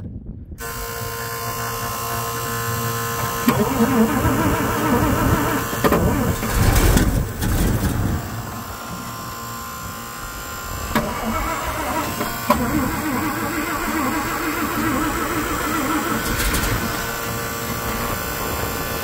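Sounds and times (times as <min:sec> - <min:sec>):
engine running rough: 0:00.6 - 0:19.0
starter cranking truck engine: 0:00.6 - 0:19.0.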